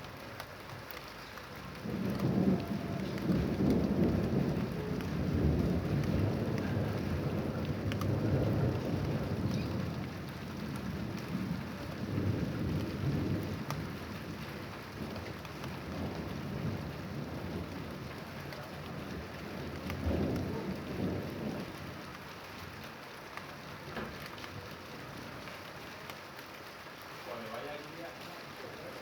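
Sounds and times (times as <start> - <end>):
steady rain: 0.0 - 29.0
thunder rolling: 1.8 - 22.9, 23.7 - 25.8.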